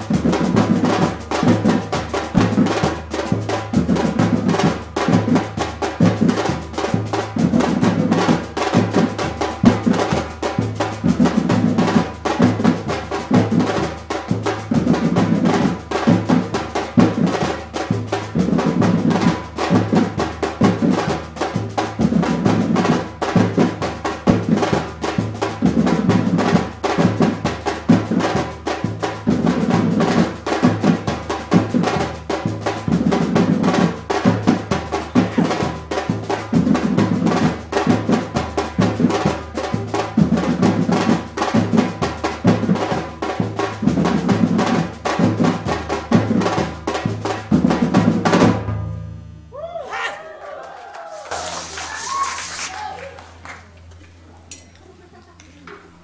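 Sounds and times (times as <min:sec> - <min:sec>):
percussion band drumming: 0:00.0 - 0:56.0.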